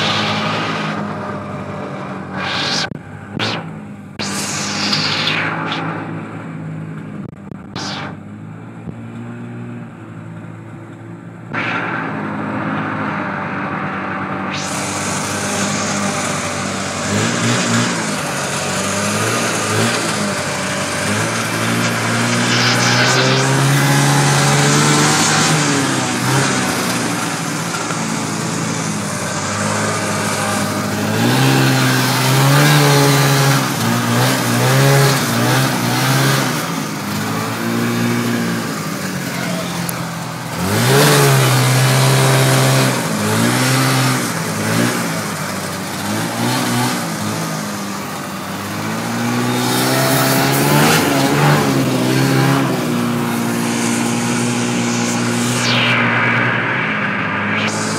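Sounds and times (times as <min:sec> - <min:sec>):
snowmobile engine revving: 0:00.0 - 0:09.8, 0:11.4 - 0:57.9.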